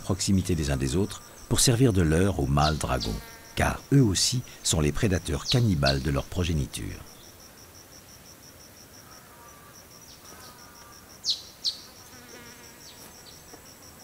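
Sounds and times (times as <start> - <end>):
high-pitched insect chirping: 0.3 - 14.0.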